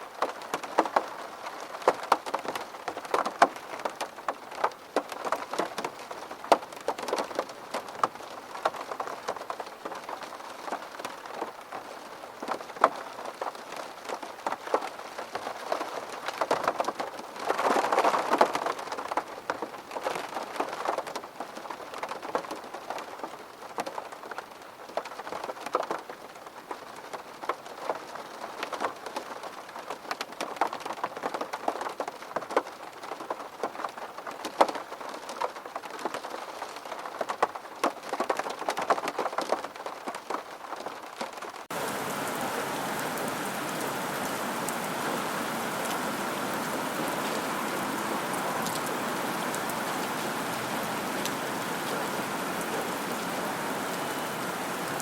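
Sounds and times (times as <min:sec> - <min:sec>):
rain drops on a hard surface: 0:00.0 - 0:55.0.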